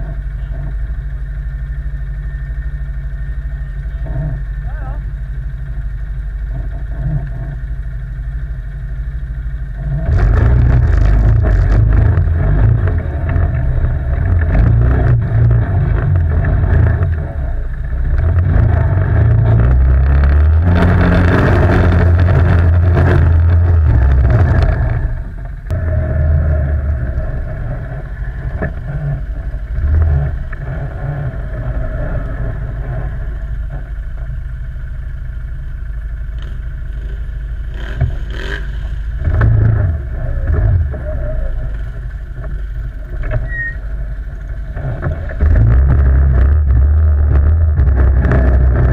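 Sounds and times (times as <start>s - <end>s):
quad bike engine running: 0.0s - 48.9s.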